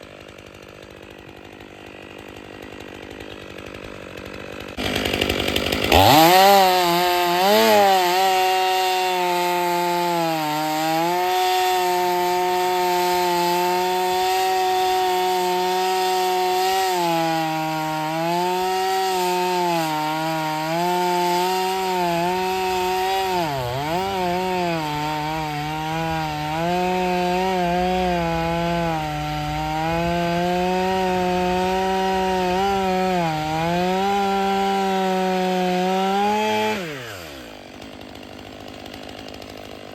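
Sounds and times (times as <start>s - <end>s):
chainsaw cutting firewood: 0.0s - 39.9s.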